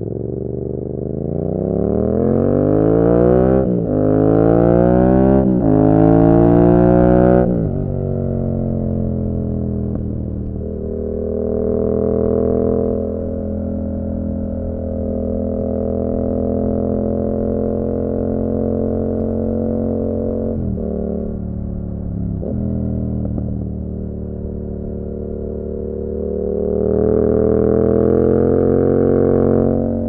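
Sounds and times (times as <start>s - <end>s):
motorcycle engine droning: 0.0s - 30.0s.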